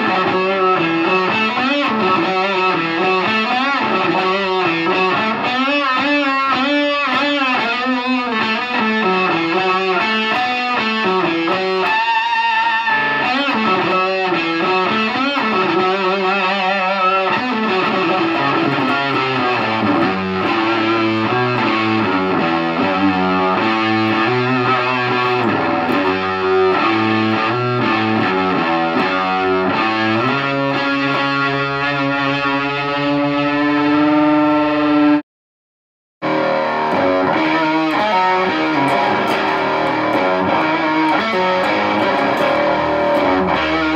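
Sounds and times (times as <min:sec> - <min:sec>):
fuzz electric guitar: 0:00.0 - 0:35.2, 0:36.2 - 0:43.9.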